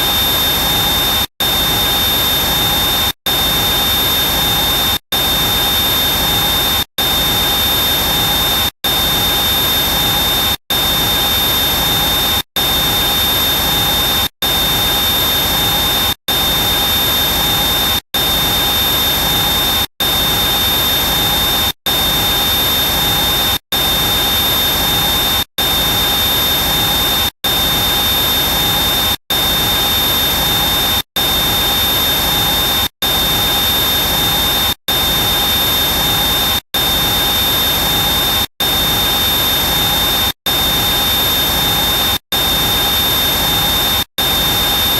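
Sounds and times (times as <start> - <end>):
helicopter engine with high whine: 0.0 - 44.9.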